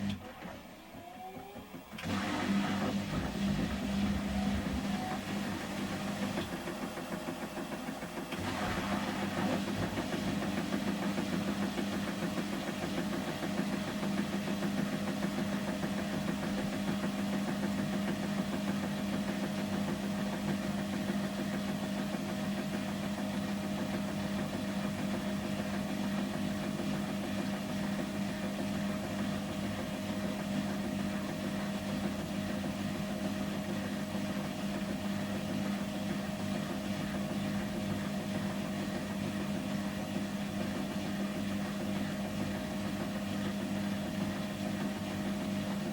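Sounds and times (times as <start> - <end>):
washing machine spinning: 0.0 - 45.9.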